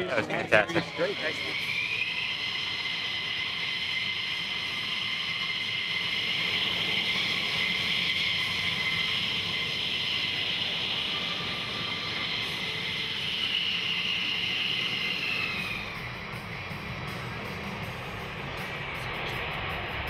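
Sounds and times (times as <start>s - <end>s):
jet engine whine and rush: 0.0s - 20.0s.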